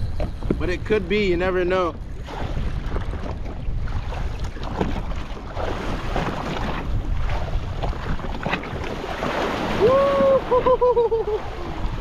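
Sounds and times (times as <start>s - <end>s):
water splashing against boat: 0.0s - 12.0s
wind buffeting microphone: 0.0s - 12.0s.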